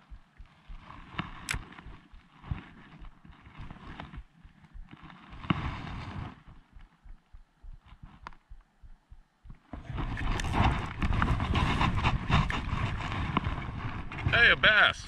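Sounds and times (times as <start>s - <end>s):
soft handling thumps: 0.0s - 12.6s.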